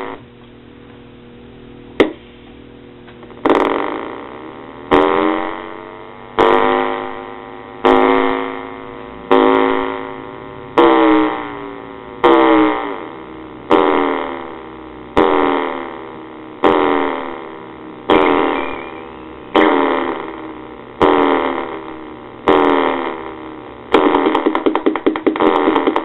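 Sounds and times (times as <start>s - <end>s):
analog synthesizer notes: 3.4s - 26.0s.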